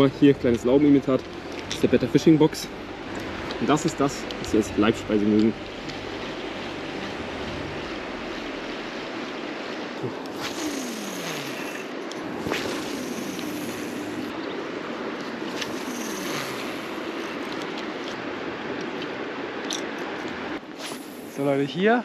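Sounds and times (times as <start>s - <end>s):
river rushing: 0.0s - 21.9s.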